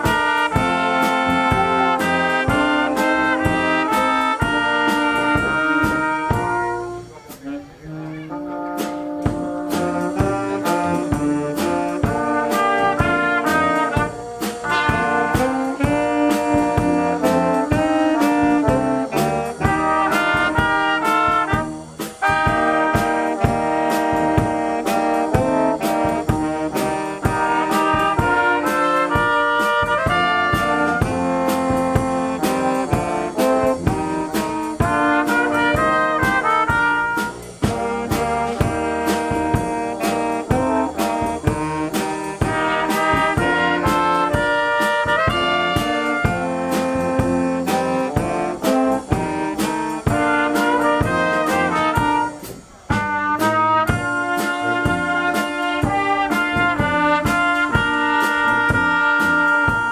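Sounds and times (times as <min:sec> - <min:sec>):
brass band music: 0:00.0 - 0:59.9.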